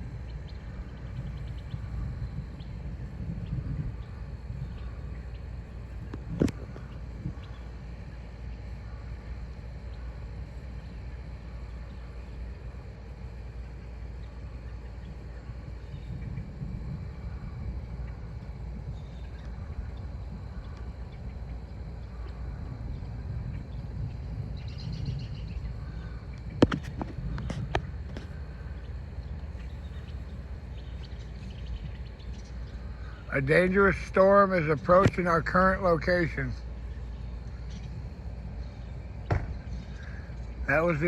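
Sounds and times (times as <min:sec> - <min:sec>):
wind rumble on microphone: 0:00.0 - 0:41.0.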